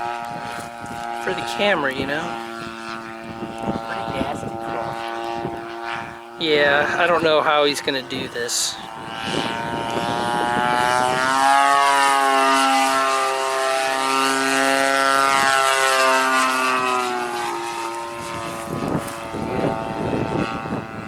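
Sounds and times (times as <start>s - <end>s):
model plane engine buzzing drone: 0.0s - 21.0s.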